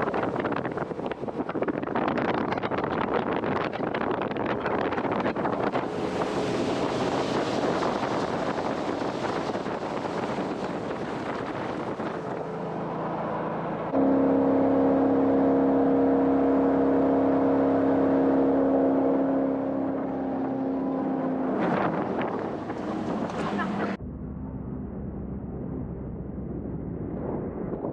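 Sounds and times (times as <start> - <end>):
wind and water rushing: 0.0 - 24.0
boat engine droning: 0.0 - 27.6.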